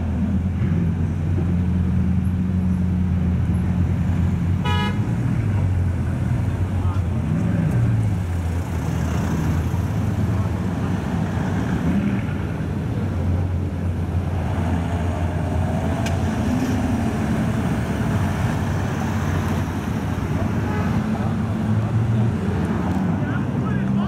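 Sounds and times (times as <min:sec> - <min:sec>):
cars driving past: 0:00.0 - 0:24.0.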